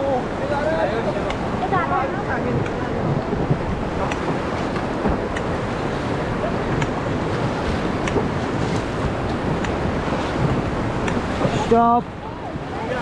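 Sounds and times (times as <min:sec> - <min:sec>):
paddle splashes: 0:00.0 - 0:13.0
rushing river water: 0:00.0 - 0:13.0
wind buffeting microphone: 0:00.0 - 0:13.0.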